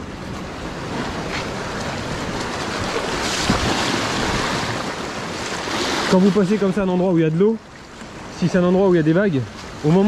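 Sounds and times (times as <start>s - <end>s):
sea surf over rocks: 0.0s - 10.0s.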